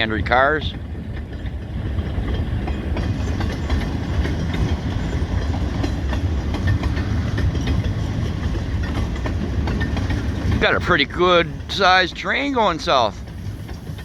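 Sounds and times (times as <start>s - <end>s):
clicking and clacking of rails: 0.0s - 14.0s
freight train wheels rumbling: 0.0s - 14.0s.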